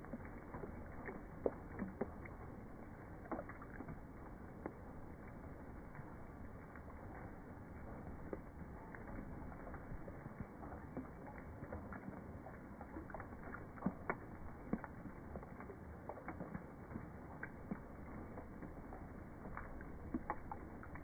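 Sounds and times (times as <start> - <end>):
rain dripping on pond: 0.0 - 21.0
soft rain patter: 0.0 - 21.0.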